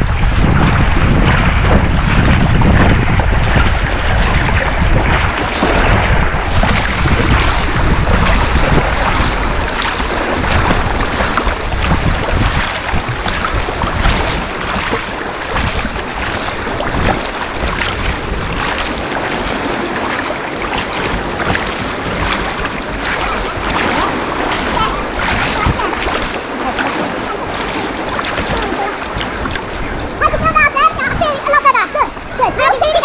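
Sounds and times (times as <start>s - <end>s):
water splashing and sloshing: 0.0s - 33.0s
wind rumble on microphone: 0.0s - 33.0s.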